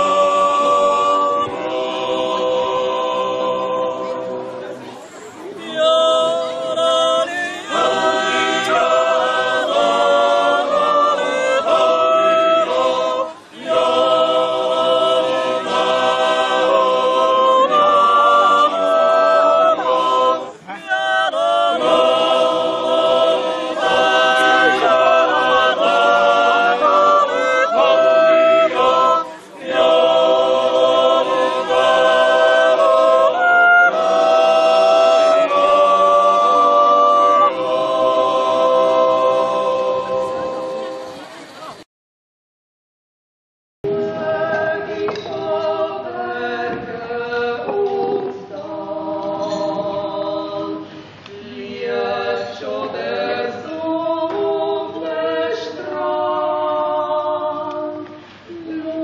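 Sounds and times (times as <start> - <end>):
a cappella choir singing: 0.0 - 41.7, 43.9 - 59.0.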